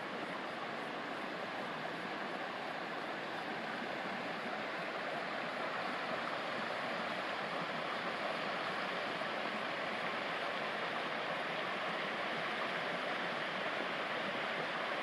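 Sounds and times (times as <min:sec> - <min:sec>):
creek running: 0:00.0 - 0:15.0.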